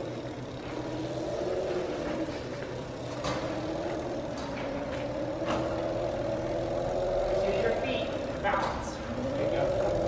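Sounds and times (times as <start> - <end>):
electric motor whine: 0.0 - 10.0.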